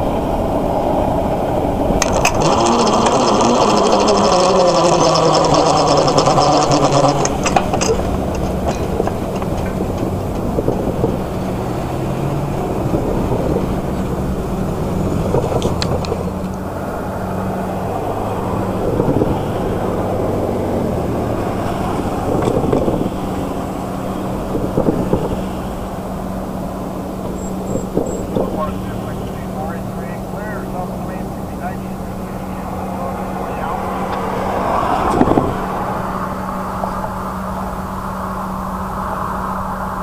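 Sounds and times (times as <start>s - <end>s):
cars passing by: 0.0s - 40.0s
engine idling: 0.0s - 40.0s.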